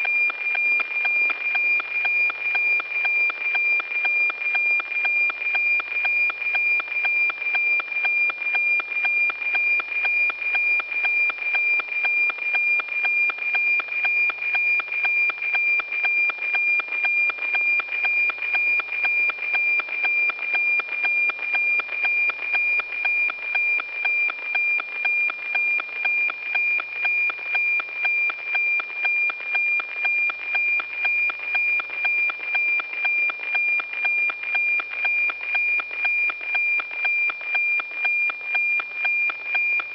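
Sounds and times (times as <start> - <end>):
satellite signal tone with ticking: 0.0 - 39.9.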